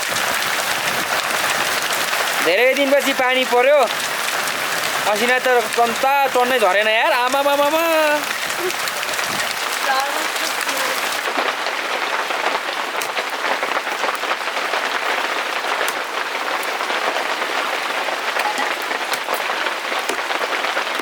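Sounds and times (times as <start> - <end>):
hailstones ticking: 0.0 - 21.0
heavy rain hiss: 0.0 - 21.0.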